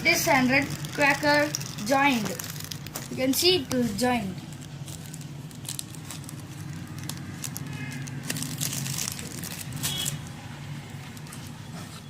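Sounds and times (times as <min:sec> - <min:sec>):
low background hum: 0:00.0 - 0:12.0
packaging crinkling and rustling: 0:00.3 - 0:12.0.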